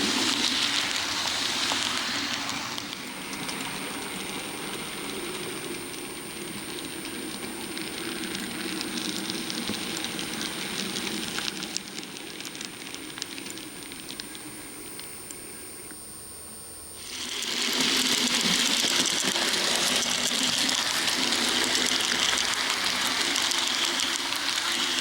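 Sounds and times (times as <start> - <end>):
model train running on track: 0.0 - 15.3, 17.0 - 25.0
wheels clicking on rails: 0.0 - 16.0, 17.0 - 25.0.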